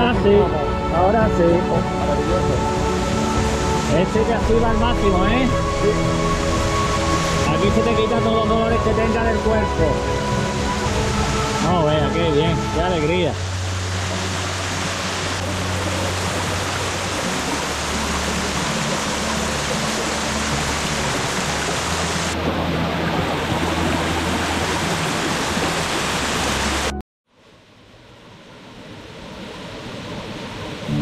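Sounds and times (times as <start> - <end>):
low music notes: 0.0 - 25.8
river water rushing over cascade: 0.0 - 31.0.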